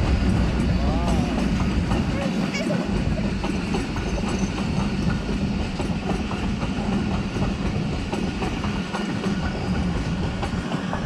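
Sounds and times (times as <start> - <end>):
train rumble: 0.0 - 11.0
train wheels clacking on rail joints: 0.0 - 11.0.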